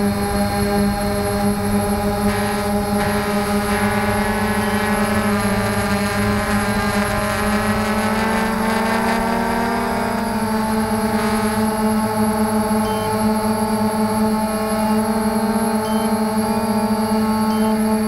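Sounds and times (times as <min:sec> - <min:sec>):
small aircraft motor whine: 0:00.0 - 0:18.0.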